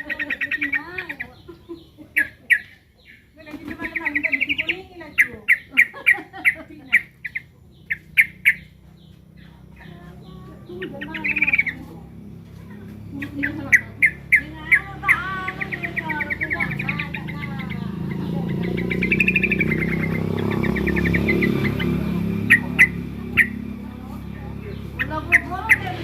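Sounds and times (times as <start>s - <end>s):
bird alarm chirps: 0.0s - 26.0s.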